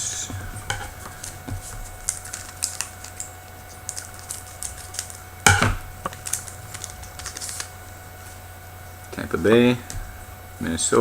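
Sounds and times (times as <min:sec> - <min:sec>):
trading cards shuffling: 0:00.0 - 0:10.5
card crackle: 0:00.0 - 0:10.6.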